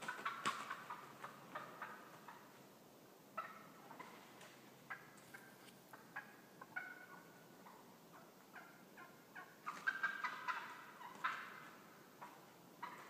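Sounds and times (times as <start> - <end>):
turkey gobble: 0.0 - 2.6, 3.3 - 13.0
wild turkeys calling: 0.0 - 2.7, 3.3 - 13.0.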